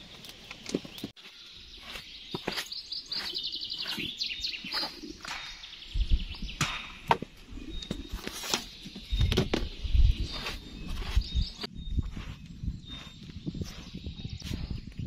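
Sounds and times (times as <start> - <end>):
small bird singing trills: 0.8 - 15.0.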